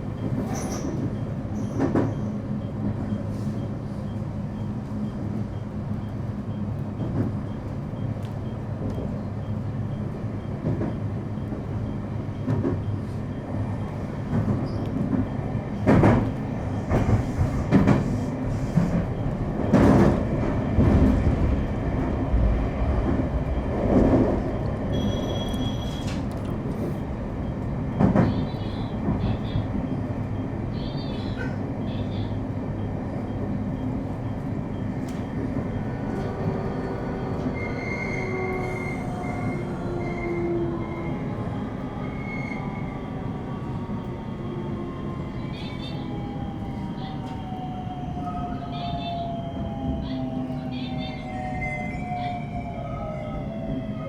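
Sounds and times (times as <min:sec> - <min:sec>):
electric train running on track: 0:00.0 - 0:54.0.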